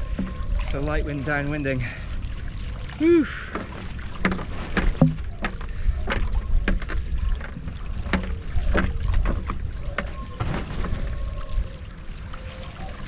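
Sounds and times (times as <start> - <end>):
water splashing against a board: 0.0 - 13.0
wind rumble on microphone: 0.0 - 13.0.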